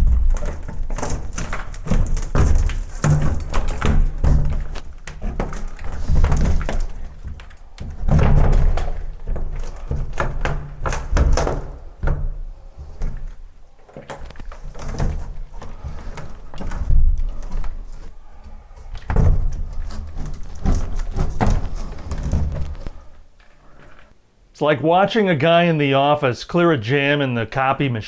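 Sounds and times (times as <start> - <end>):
wall demolition knocks and thuds: 0.0 - 23.9
debris clattering down: 0.0 - 24.1.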